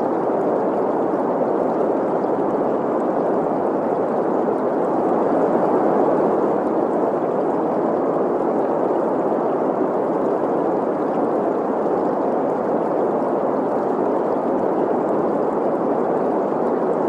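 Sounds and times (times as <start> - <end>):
flowing stream: 0.0 - 17.0.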